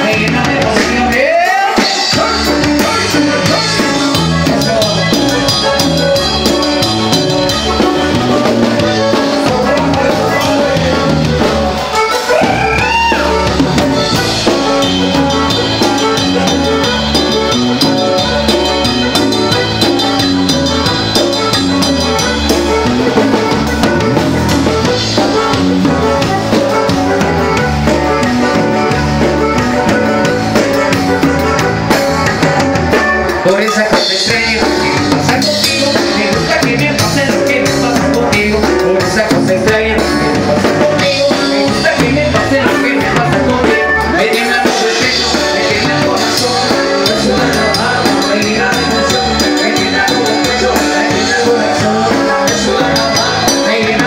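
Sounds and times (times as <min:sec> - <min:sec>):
congas and percussion beat: 0:00.0 - 0:54.0
live band playing cumbia: 0:00.0 - 0:54.0.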